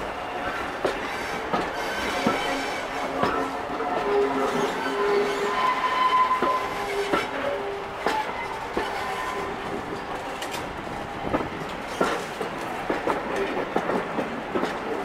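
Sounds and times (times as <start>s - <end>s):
train running rumble: 0.0s - 15.0s
train wheels clicking over rail joints: 0.0s - 15.0s.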